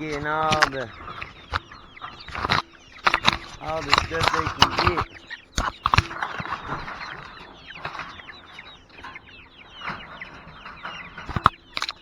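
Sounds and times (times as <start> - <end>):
chickens chirping and clucking: 0.0 - 12.0.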